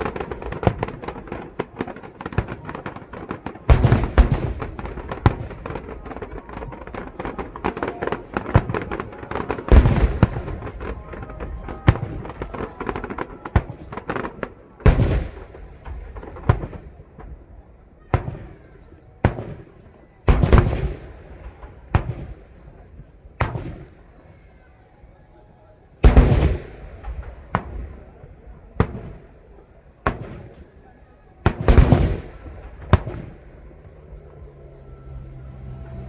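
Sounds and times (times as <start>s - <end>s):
fireworks booms: 0.0s - 24.6s, 26.0s - 36.0s
fireworks crackling and popping: 0.0s - 36.0s.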